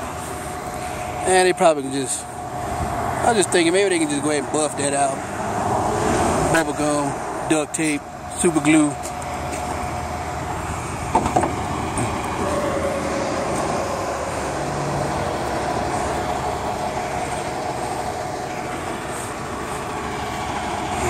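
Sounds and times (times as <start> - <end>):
vehicle noise: 0.0 - 21.0.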